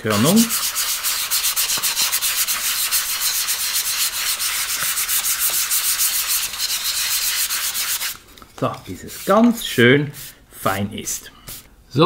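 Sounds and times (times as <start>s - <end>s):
sandpaper rubbing on foam board: 0.1s - 8.2s, 8.8s - 11.6s.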